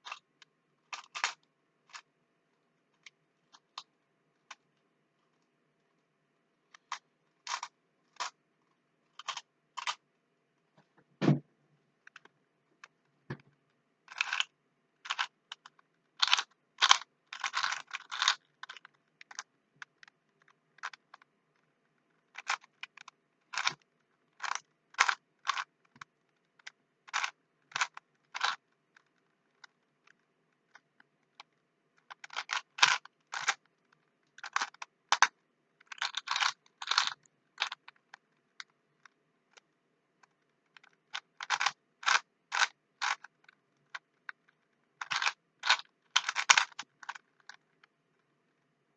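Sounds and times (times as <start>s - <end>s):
puzzle cube plastic clicks: 0.0s - 2.1s, 2.9s - 5.5s, 6.7s - 8.4s, 9.1s - 10.1s, 12.0s - 48.3s.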